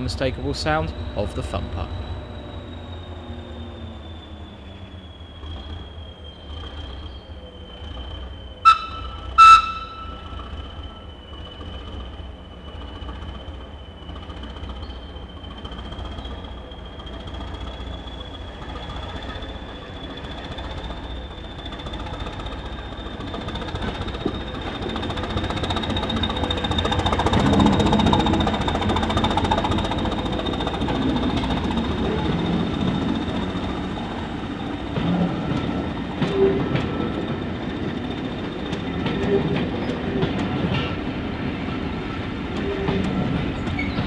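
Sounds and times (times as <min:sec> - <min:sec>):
diesel engine rumble and whine: 0:00.0 - 0:44.0.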